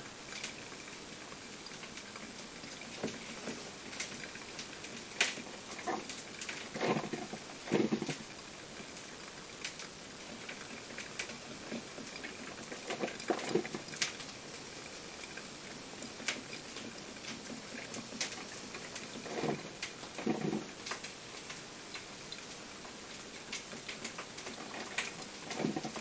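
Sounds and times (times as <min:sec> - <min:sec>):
coffee maker gurgling: 0:00.0 - 0:26.0
coffee maker ticking and popping: 0:00.3 - 0:26.0.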